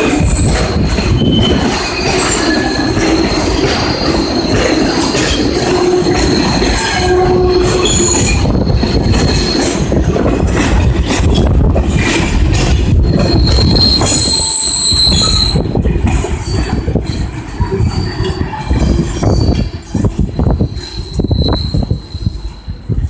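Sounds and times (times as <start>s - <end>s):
wheels clanking over rail joints: 0.0s - 22.9s
freight train rumbling past: 0.0s - 23.0s
wheel flanges squealing: 0.0s - 23.0s.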